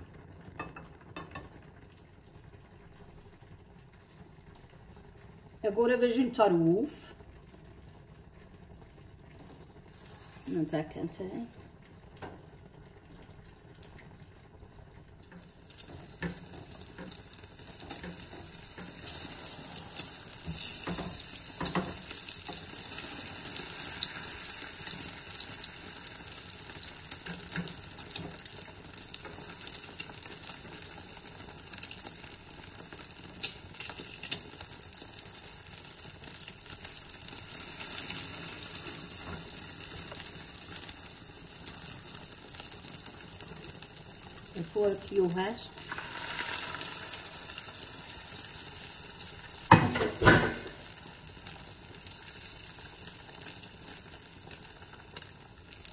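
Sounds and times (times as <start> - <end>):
eggs sizzling in a pan: 0.0 - 55.9.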